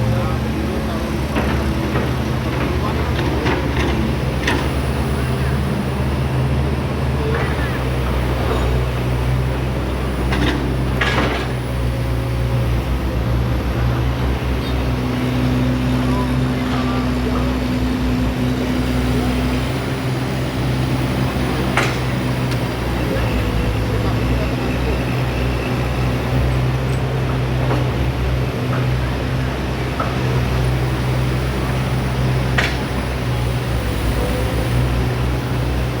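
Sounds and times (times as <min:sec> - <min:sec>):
excavator diesel engine droning: 0:00.0 - 0:36.0.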